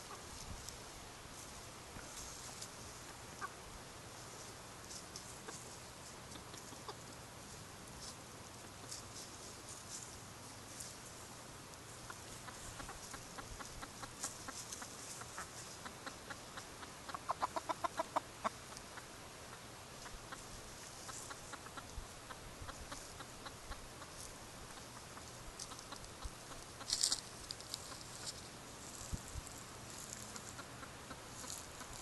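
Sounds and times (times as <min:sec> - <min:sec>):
chickens clucking: 0:00.0 - 0:00.8, 0:01.4 - 0:32.0.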